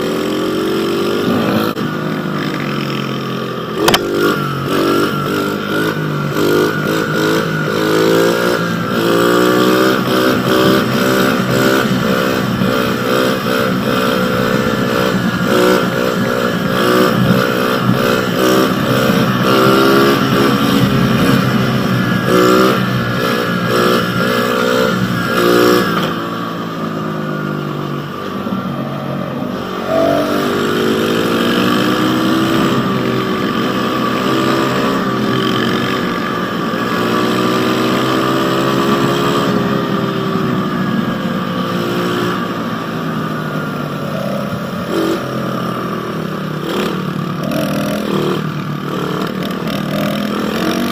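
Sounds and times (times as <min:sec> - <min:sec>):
pit bike engine revving: 0:00.0 - 0:50.9.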